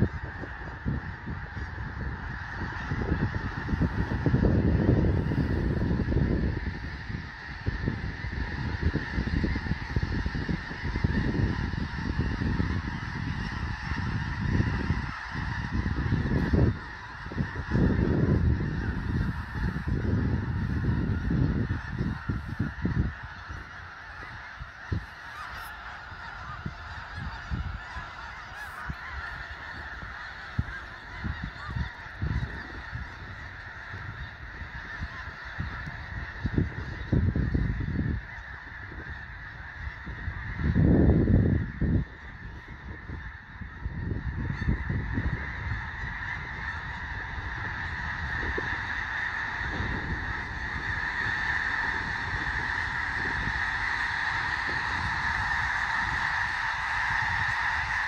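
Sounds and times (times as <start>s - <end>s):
flock of geese calling: 0.0s - 58.0s.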